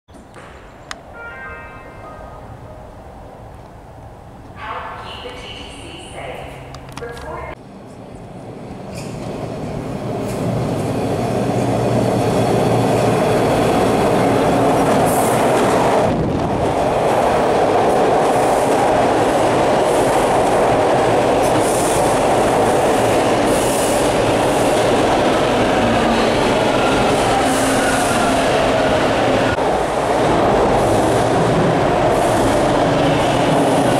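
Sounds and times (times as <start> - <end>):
subway train passing: 0.2 - 33.9.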